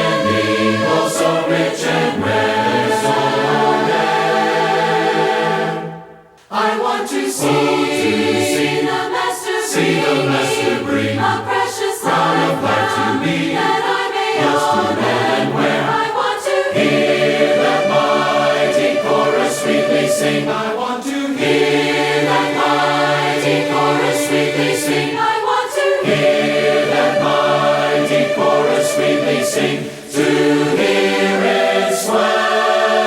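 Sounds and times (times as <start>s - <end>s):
choir singing a hymn: 0.0s - 33.0s.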